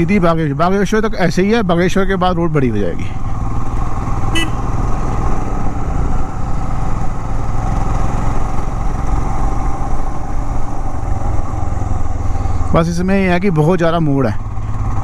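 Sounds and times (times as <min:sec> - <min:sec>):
road and wind noise: 0:00.0 - 0:15.0
motorcycle engine running: 0:01.8 - 0:15.0.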